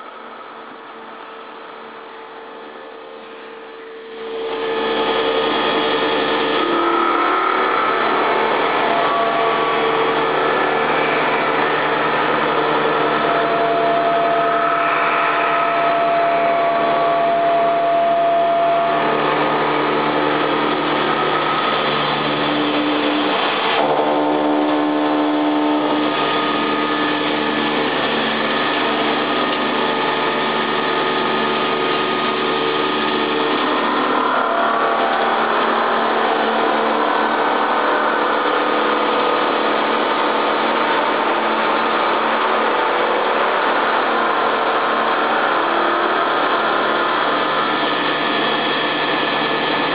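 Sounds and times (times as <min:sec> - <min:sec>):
lathe turning: 0:03.0 - 0:49.9
milling machine cutting steel: 0:03.0 - 0:49.9.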